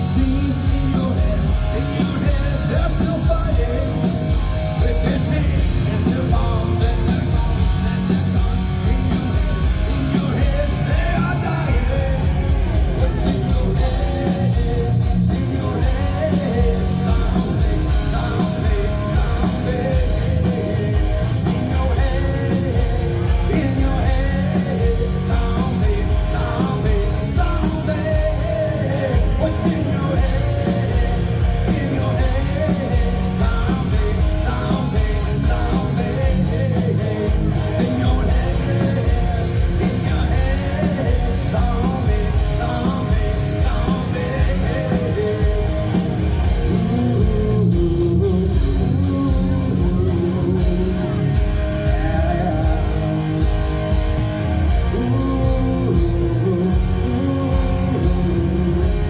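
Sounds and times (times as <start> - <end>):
drums: 0.0 - 59.0
electric guitar: 0.0 - 59.0
live rock band playing: 0.0 - 59.0.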